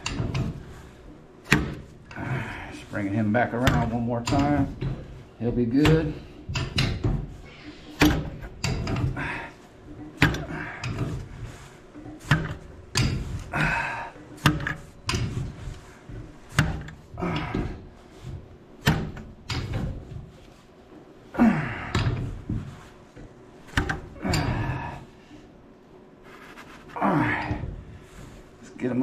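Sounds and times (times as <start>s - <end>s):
pipe fittings clunking: 0.0s - 25.6s, 26.9s - 29.0s.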